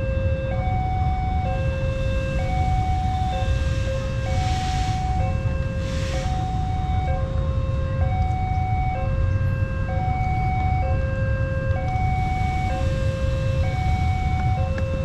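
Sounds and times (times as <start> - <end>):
level-crossing two-tone alarm: 0.0 - 15.0
low rumble: 0.6 - 15.0.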